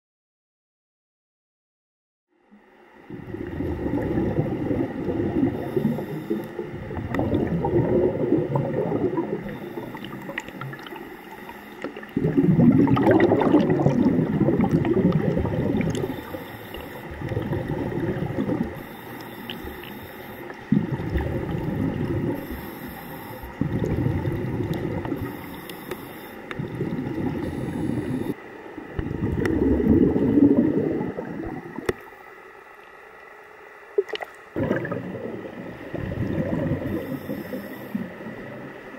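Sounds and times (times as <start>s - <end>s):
churning underwater water: 2.9s - 33.2s, 33.8s - 38.9s.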